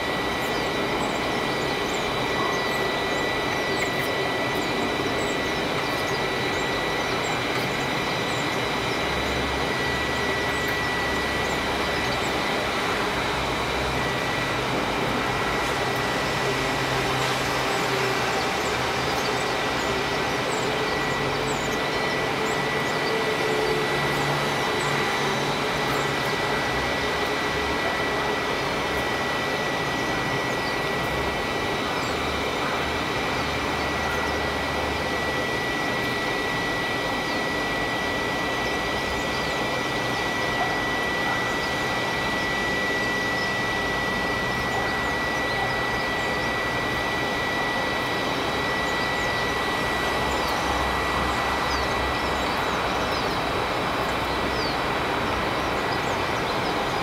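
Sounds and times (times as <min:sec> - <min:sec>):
thin high whine: 0:00.0 - 0:57.0.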